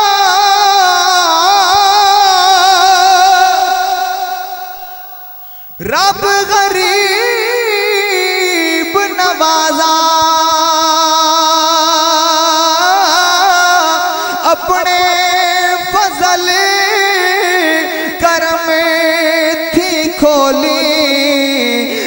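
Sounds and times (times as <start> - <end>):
man singing through loudspeakers: 0.0 - 22.0.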